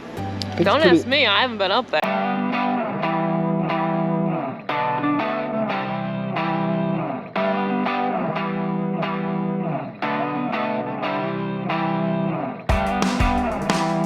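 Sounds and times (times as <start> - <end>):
plucked guitar with effects: 0.0 - 14.0.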